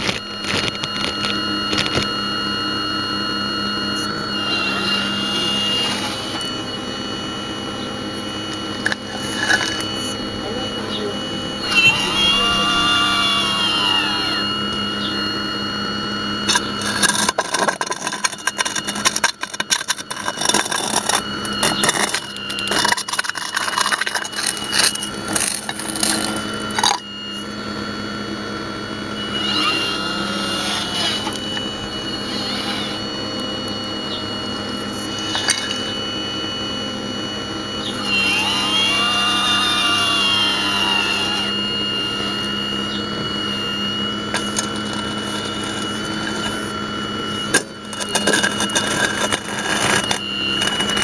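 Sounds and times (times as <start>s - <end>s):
hydraulic pump whining: 0.0s - 51.0s.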